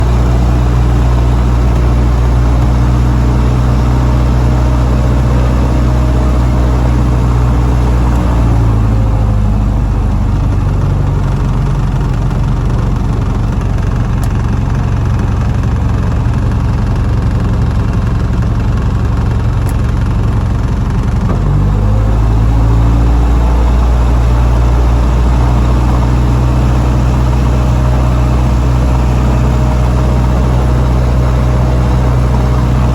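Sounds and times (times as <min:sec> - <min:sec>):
light aircraft engine running rough: 0:00.0 - 0:32.9.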